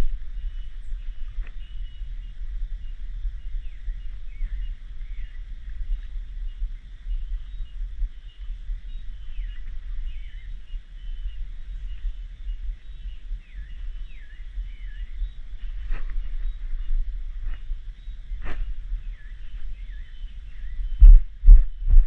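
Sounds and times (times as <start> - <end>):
cicadas droning: 0.0 - 22.0
low rumble: 0.0 - 22.0.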